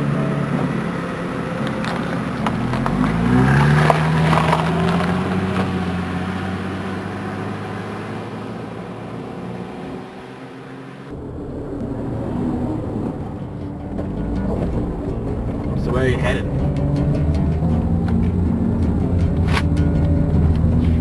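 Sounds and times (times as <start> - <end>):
motor engine revving: 0.0 - 21.0.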